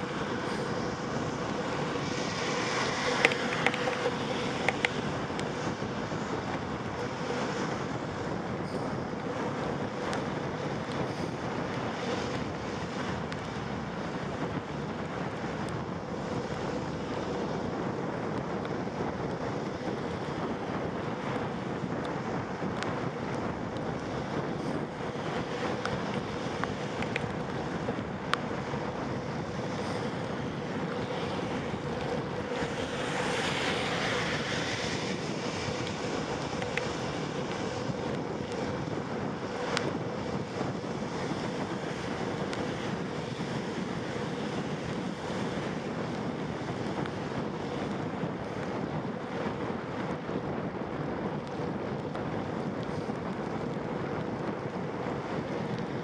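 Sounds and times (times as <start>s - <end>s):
tyre road hiss in rain: 0.0s - 56.0s
wind rushing over microphone: 0.0s - 56.0s.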